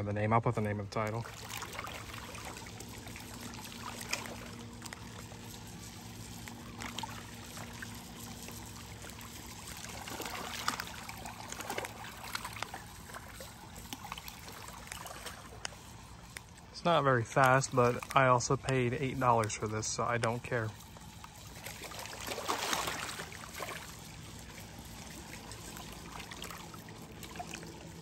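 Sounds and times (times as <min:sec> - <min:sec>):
lake water lapping at shore: 0:00.6 - 0:28.0
small water splashes: 0:01.0 - 0:28.0.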